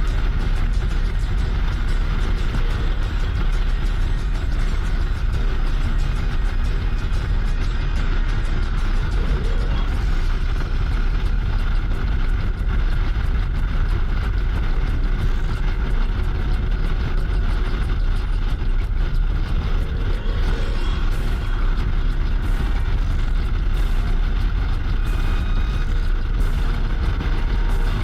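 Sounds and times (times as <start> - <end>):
motorcycle running: 0.0 - 28.0
wind and road noise: 0.0 - 28.0.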